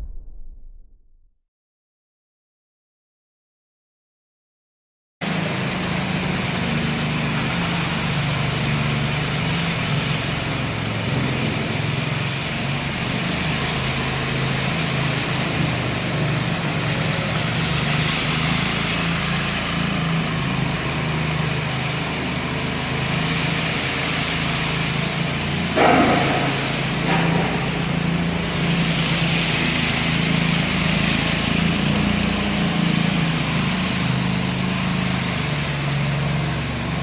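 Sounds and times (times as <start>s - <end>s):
power trowel engine humming: 5.3s - 37.0s.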